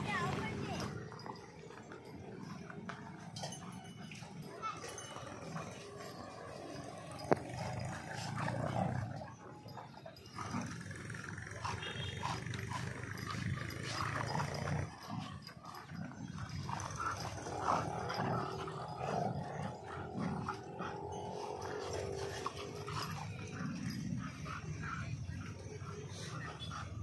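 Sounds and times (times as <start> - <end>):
dogs growling: 0.0 - 27.0.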